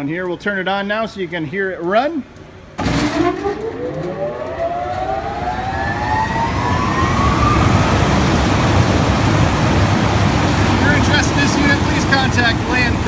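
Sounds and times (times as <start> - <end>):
fan air rushing: 1.3 - 13.0.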